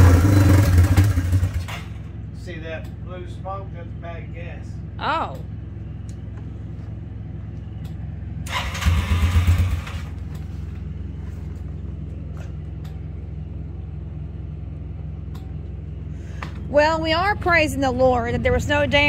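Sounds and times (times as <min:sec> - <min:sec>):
atv engine idling: 0:00.0 - 0:19.0.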